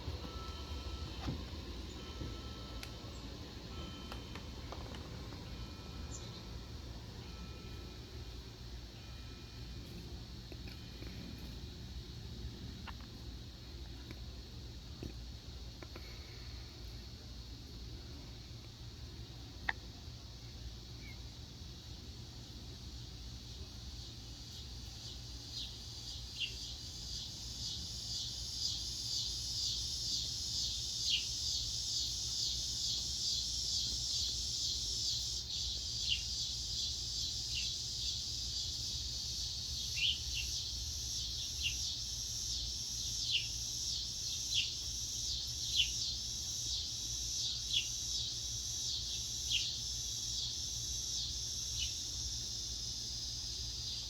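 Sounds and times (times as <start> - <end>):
high insect chorus: 0.0 - 54.0.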